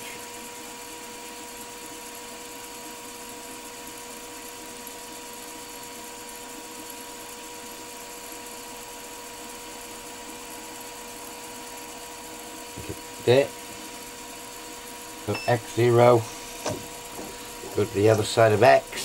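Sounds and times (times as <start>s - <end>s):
milling machine spindle whine: 0.0s - 19.0s.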